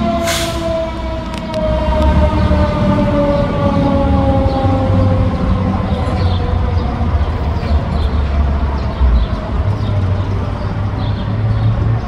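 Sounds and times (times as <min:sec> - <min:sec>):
street traffic: 0:00.0 - 0:12.0
train rumbling over bridge: 0:00.0 - 0:12.0.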